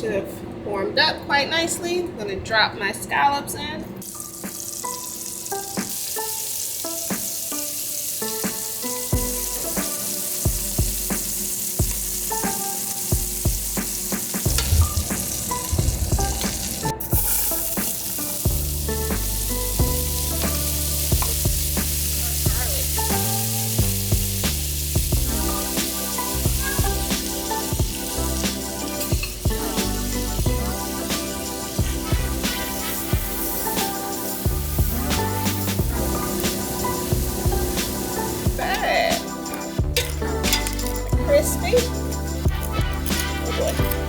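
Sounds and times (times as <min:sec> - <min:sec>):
scallops sizzling in a pan: 0:04.0 - 0:41.5.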